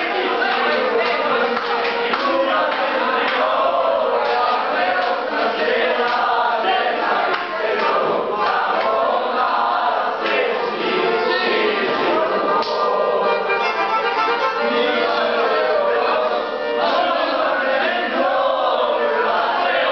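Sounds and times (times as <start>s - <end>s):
group of voices singing: 0.0s - 19.9s.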